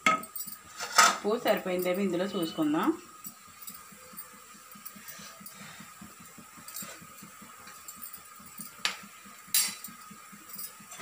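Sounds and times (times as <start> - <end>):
utensils clinking against a pot: 0.0 - 5.6, 6.6 - 11.0.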